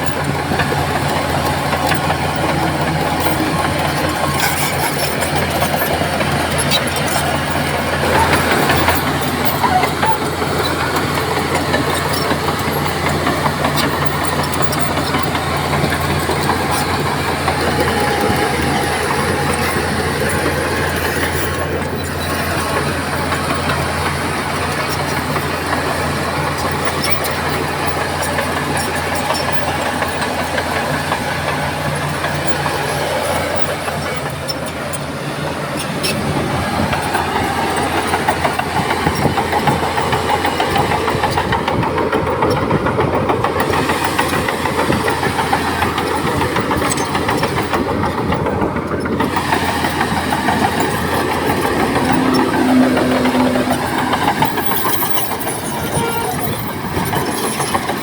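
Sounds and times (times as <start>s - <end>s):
bulldozer diesel engine droning: 0.0s - 58.0s
steel tracks rattling and clanking: 0.0s - 58.0s.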